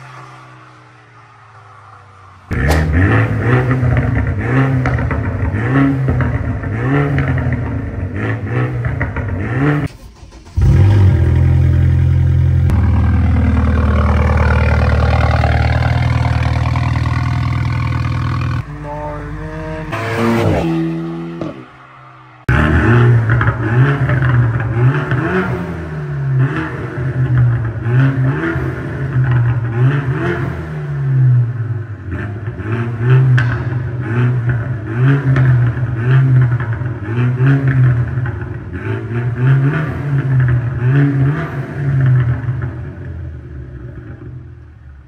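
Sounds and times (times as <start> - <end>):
car engine revving: 0.0 - 44.4.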